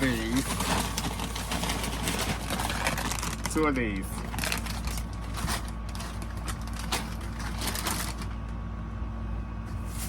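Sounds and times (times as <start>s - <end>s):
plastic snack bag crinkling: 0.0s - 8.4s.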